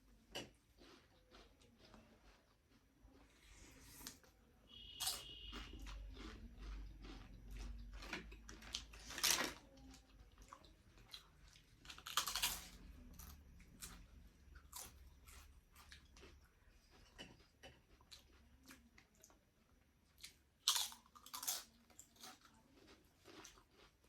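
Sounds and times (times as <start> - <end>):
close chewing and eating: 0.0 - 24.0.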